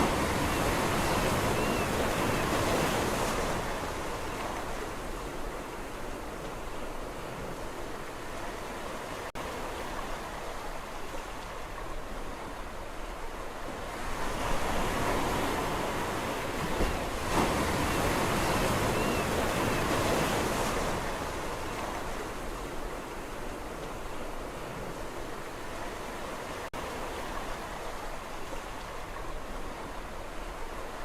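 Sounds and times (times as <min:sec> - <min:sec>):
surf washing on shore: 0:00.0 - 0:31.0.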